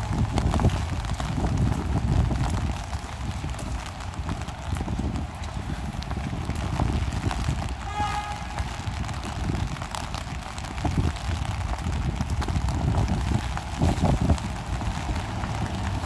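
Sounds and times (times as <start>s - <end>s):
footsteps on wet paving: 0.0s - 16.0s
street noise: 0.0s - 16.0s
wind noise: 0.0s - 16.0s.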